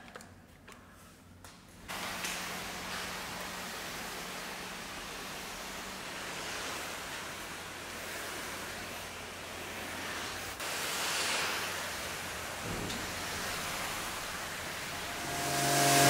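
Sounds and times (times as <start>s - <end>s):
pressure washer spraying water: 1.9s - 16.0s.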